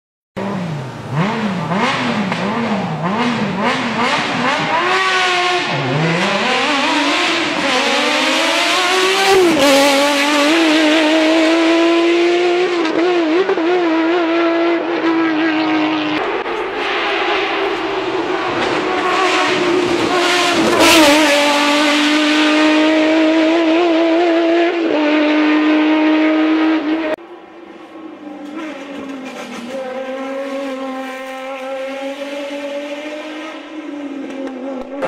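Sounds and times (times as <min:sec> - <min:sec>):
racing engine revving: 0:00.4 - 0:35.0.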